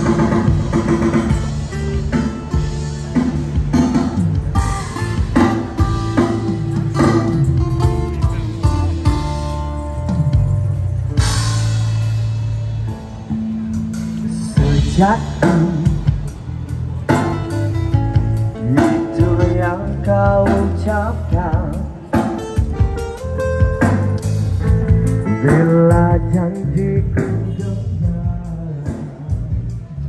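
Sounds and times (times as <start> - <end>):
song with voice and guitar: 0.0 - 30.0.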